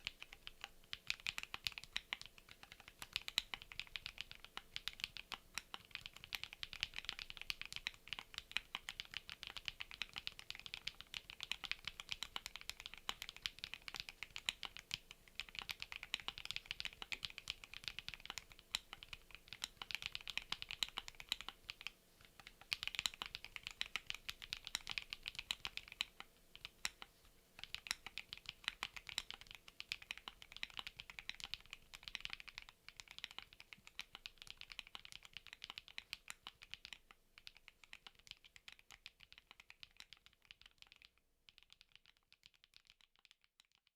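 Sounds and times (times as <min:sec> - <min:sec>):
fast mechanical keyboard typing: 0:00.0 - 0:43.8.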